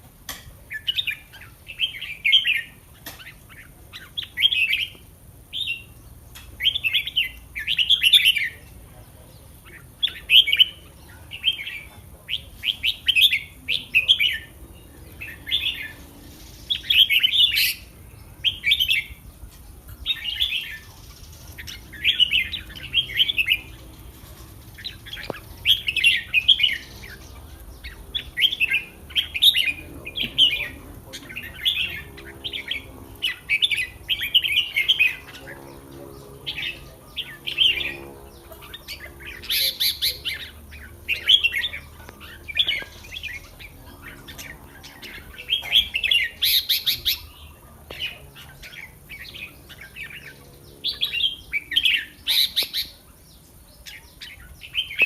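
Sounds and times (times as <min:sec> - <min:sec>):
bulbul singing: 0:00.1 - 0:55.0.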